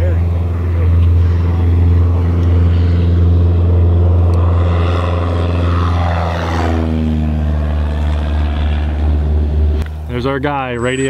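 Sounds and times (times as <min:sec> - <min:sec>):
propeller plane taking off: 0:00.0 - 0:11.0.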